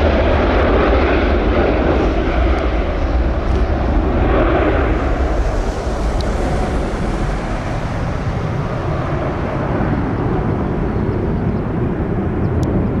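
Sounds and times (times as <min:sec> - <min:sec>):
jet engines at full power: 0:00.0 - 0:13.0.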